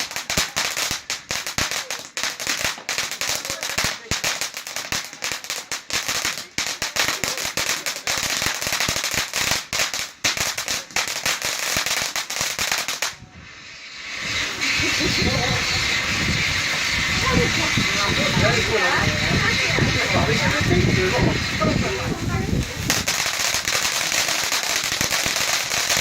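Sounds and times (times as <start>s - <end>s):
fireworks cracking and banging: 0.0s - 26.0s.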